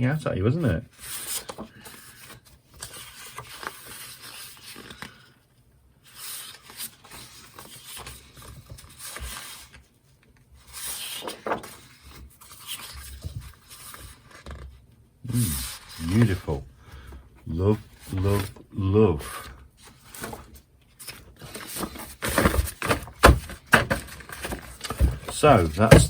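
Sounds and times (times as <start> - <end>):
paper sheets rustling and scraping: 0.6 - 5.3, 6.0 - 9.9, 10.6 - 14.7, 15.3 - 18.6, 19.2 - 26.0.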